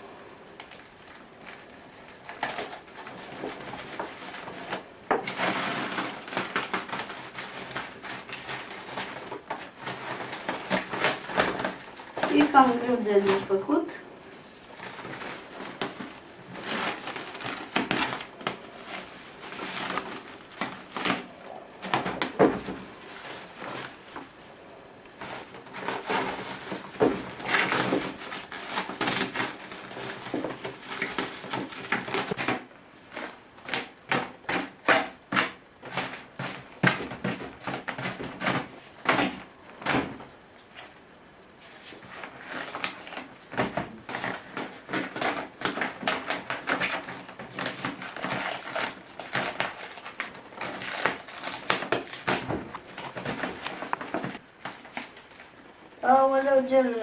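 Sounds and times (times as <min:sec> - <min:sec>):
plastic wrapping crinkling and tearing: 0:00.0 - 0:57.0.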